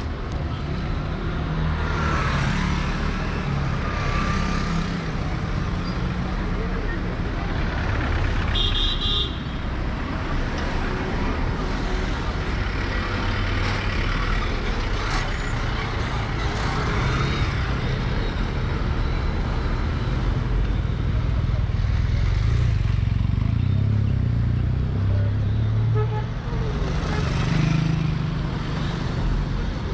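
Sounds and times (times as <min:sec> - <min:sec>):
city street traffic: 0:00.0 - 0:29.9.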